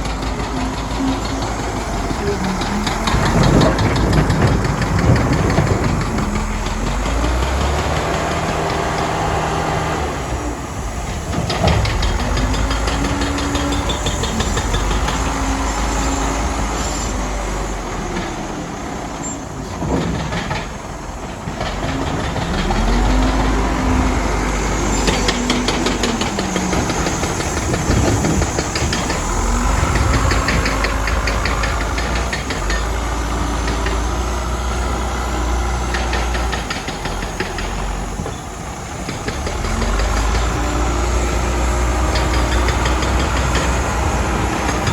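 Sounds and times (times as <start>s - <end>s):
heavy machinery diesel engines revving: 0.0s - 44.9s.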